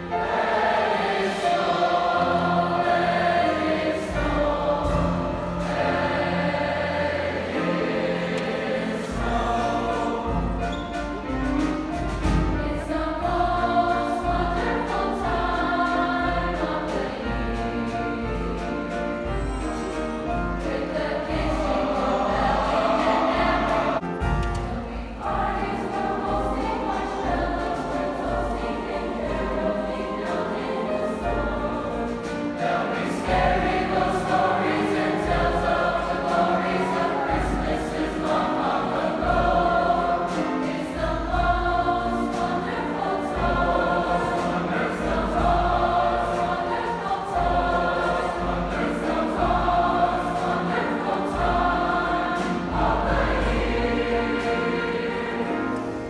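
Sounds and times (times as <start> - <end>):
large choir singing: 0.0 - 56.0.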